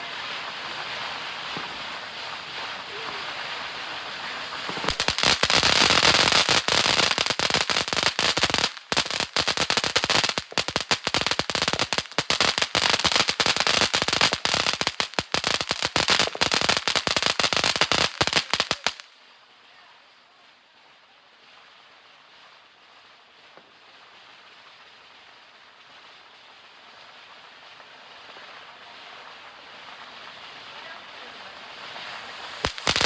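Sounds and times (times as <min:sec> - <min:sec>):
firework fountain crackling: 0:00.0 - 0:33.0.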